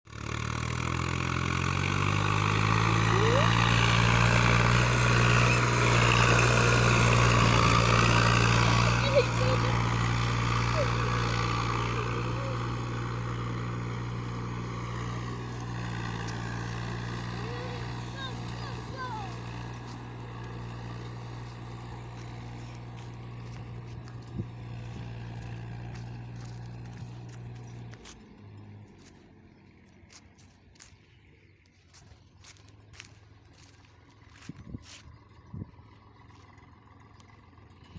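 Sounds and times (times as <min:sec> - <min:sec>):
tractor diesel engine running: 0:00.1 - 0:37.9.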